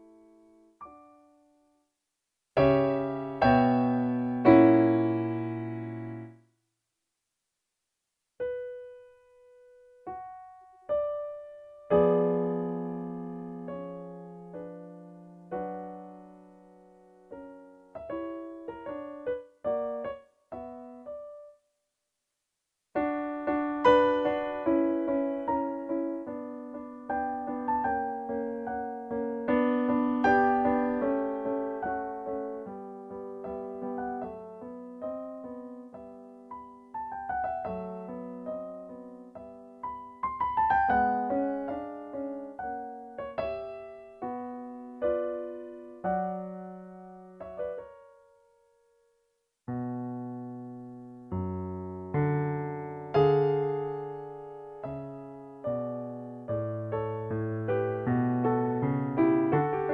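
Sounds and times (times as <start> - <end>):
solo piano music: 0.0 - 1.9, 2.6 - 6.5, 8.4 - 21.6, 22.9 - 59.9.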